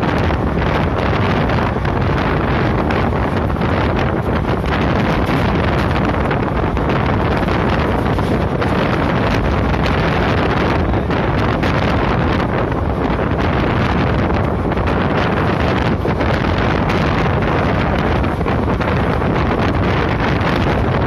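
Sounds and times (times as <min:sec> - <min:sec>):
passenger train running: 0:00.0 - 0:21.0
wind buffeting microphone: 0:00.0 - 0:21.0.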